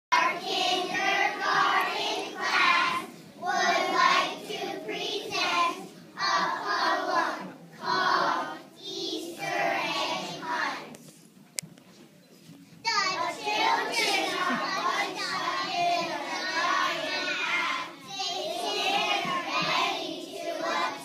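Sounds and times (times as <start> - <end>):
children's choir singing: 0.1 - 11.0, 13.0 - 21.0.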